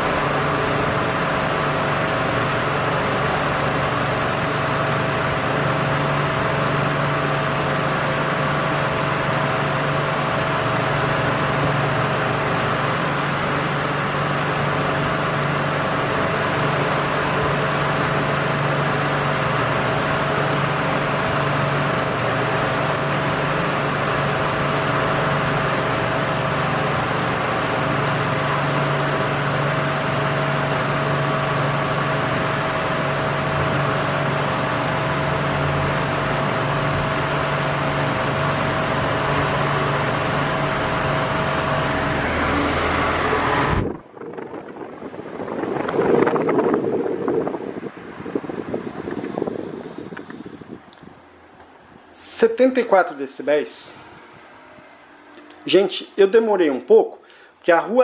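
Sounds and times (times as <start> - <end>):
fan air whooshing: 0.0 - 58.0
fan motor hum: 0.0 - 58.0.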